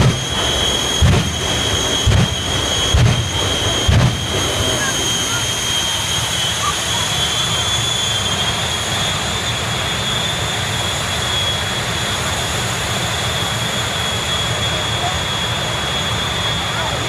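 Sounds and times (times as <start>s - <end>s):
jet engine with afterburner: 0.0s - 17.0s.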